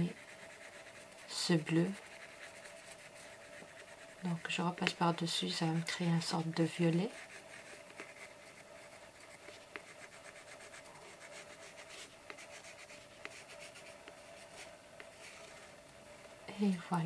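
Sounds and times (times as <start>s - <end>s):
pencil scratching on paper: 0.0s - 16.4s
faint steady hum: 0.0s - 17.0s.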